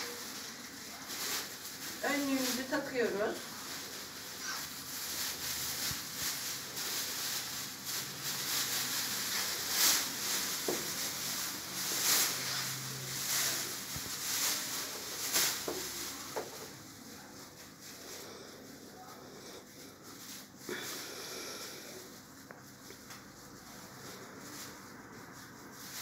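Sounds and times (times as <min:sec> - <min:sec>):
plastic cape rustling: 0:00.0 - 0:26.0.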